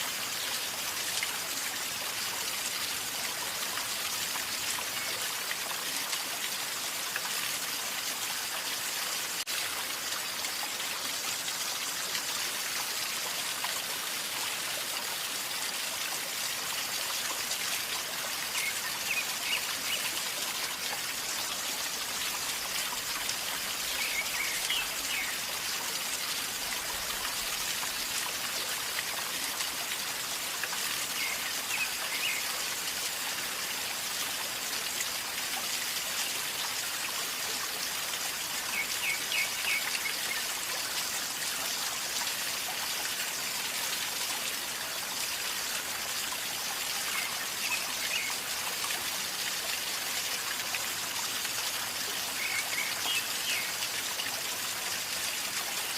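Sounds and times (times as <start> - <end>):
river gurgling over stones: 0.0 - 55.9.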